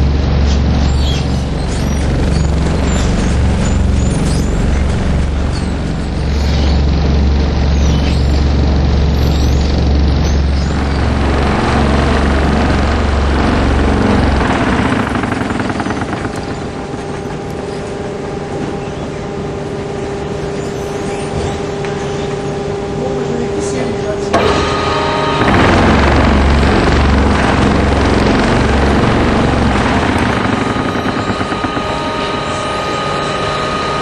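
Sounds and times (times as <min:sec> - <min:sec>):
industrial machinery low drone: 0:00.0 - 0:34.0
steady machine whine: 0:00.0 - 0:34.0.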